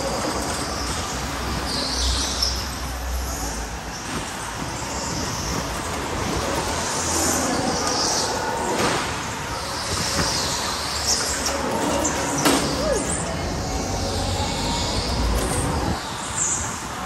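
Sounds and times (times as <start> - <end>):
electric go-kart motor and tyres: 0.0 - 17.0.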